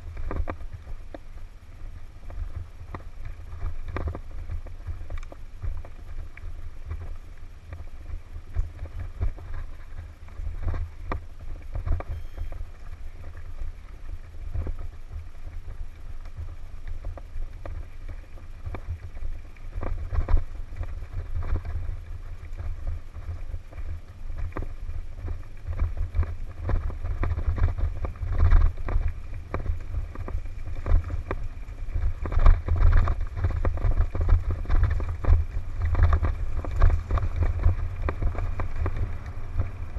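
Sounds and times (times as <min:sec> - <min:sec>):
bike tyres clicking and rattling: 0:00.0 - 0:39.9
wind buffeting microphone: 0:00.0 - 0:39.9.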